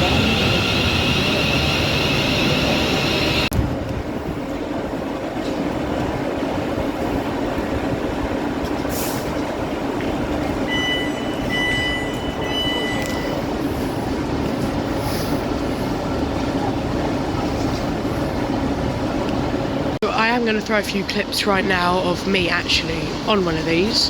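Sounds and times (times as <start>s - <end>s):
train rumbling on the line: 0.0s - 24.0s.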